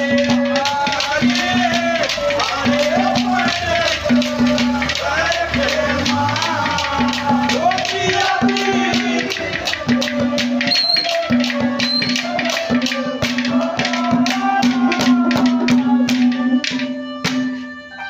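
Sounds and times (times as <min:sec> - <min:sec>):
hand drum strokes: 0:00.0 - 0:17.8
folk melody line: 0:00.0 - 0:18.0.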